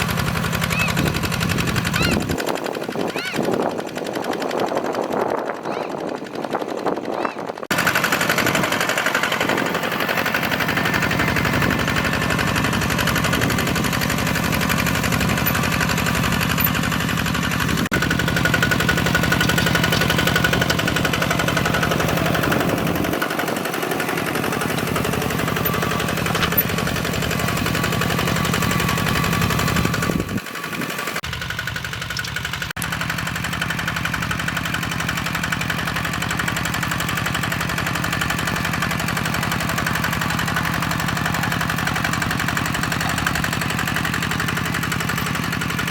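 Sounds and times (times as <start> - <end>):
diesel tractor engine chugging: 0.0 - 45.9.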